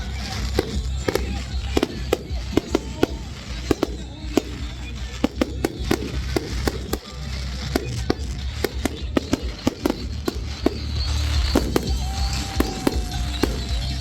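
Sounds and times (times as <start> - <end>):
background music: 0.0 - 14.0
fireworks bangs: 0.0 - 14.0.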